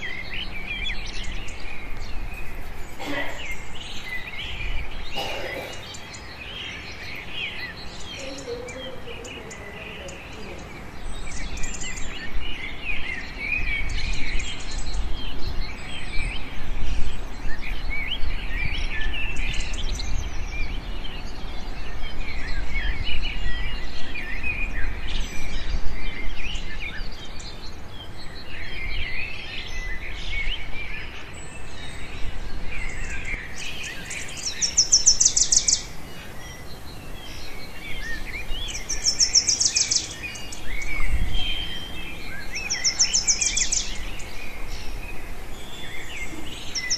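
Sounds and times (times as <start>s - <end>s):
small birds chirping and twittering: 0.0s - 46.9s.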